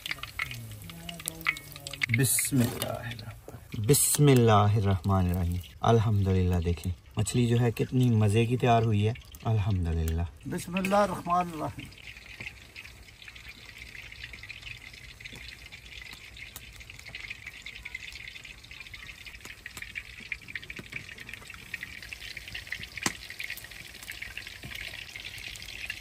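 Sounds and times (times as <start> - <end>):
hot oil sizzling in frying pan: 0.0 - 26.0.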